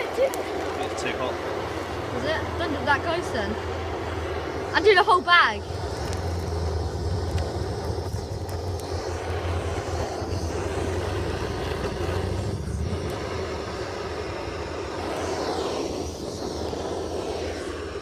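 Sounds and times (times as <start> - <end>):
blowtorch flame rushing: 0.0 - 18.0.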